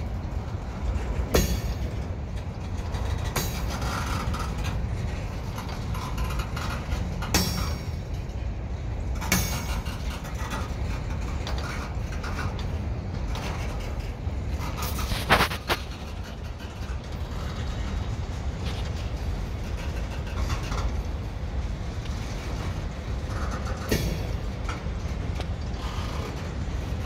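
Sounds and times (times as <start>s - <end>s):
train wheels rumbling on rail: 0.0s - 27.0s
wheels clacking over rail joint: 0.0s - 27.0s.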